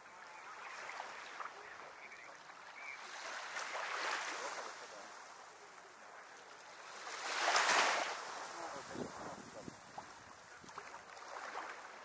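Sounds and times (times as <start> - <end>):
small waves on sandy shore: 0.0 - 12.0.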